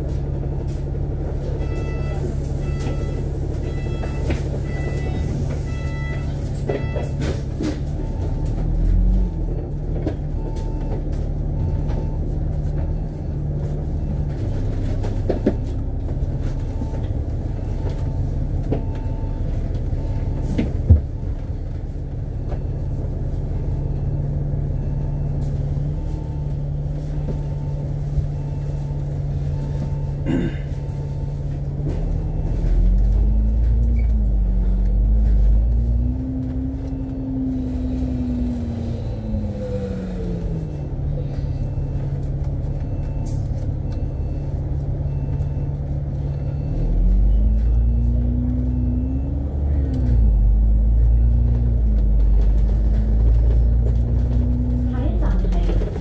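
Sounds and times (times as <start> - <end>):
bus engine drone: 0.0 - 56.0.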